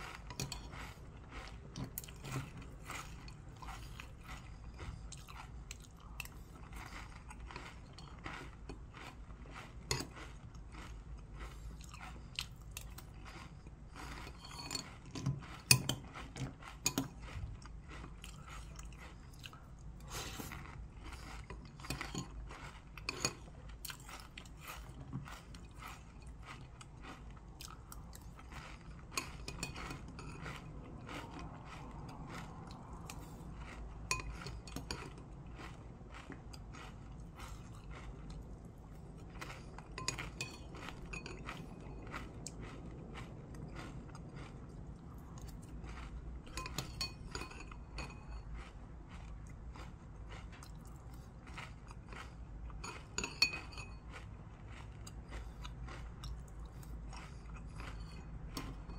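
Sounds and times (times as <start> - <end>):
chewing and crunching cereal: 0.0 - 58.9.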